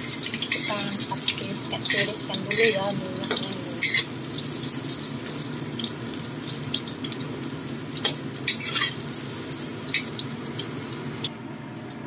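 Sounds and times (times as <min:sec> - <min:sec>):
eggplant frying in hot oil: 0:00.0 - 0:11.3.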